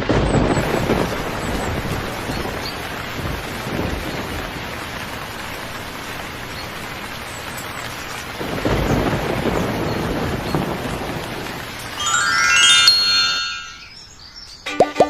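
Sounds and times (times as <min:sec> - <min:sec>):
thunder rumble: 0:00.0 - 0:13.6
heavy rain: 0:00.0 - 0:14.6.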